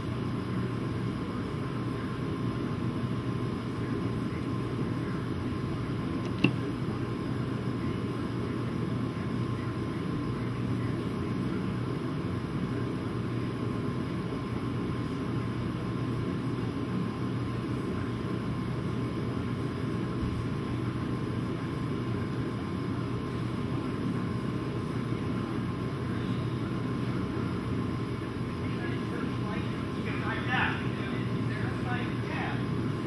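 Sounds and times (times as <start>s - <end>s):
faint steady whine: 0.0s - 33.0s
mechanical drone with low hum: 0.0s - 33.0s.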